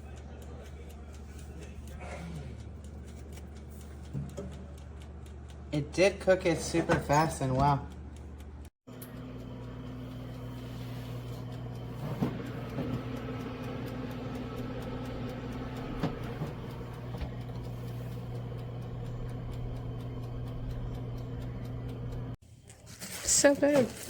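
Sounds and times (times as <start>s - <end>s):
dial timer ticking: 0.0s - 22.4s
oven fan humming: 0.0s - 22.4s.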